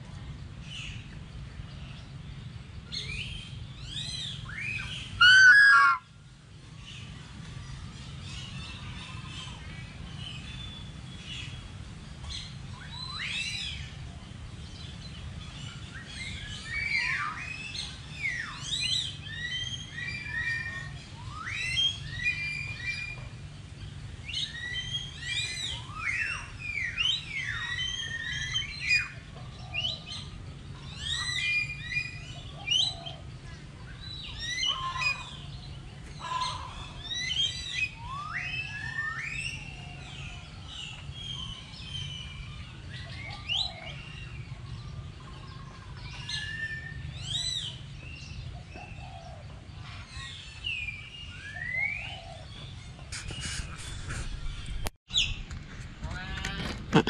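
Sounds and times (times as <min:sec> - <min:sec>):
birds chirping and whistling: 0:00.6 - 0:55.5.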